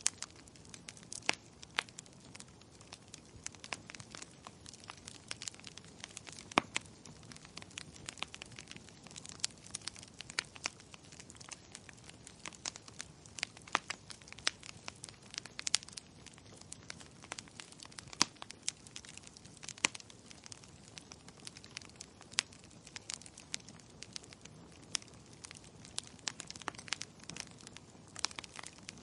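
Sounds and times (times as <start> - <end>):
faint low hiss: 0.0 - 29.0
wood fire crackling: 0.0 - 29.0.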